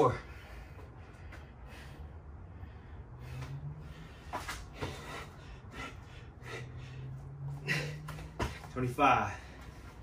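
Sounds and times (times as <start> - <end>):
man breathing hard: 0.0 - 10.0.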